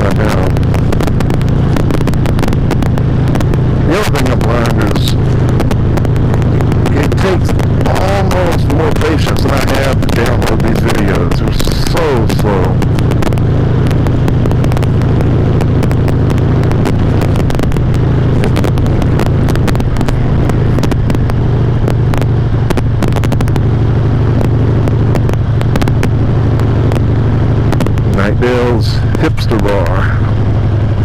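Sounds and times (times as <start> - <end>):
microphone distortion crackles: 0.0 - 31.0
motorcycle engine cruising: 0.0 - 31.0.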